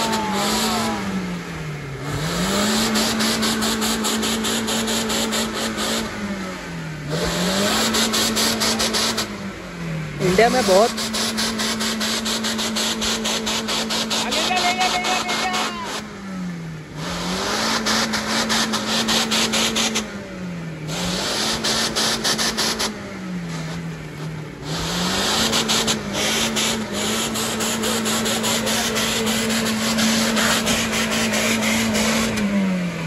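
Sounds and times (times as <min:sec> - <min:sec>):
engine at high revs: 0:00.0 - 0:33.0.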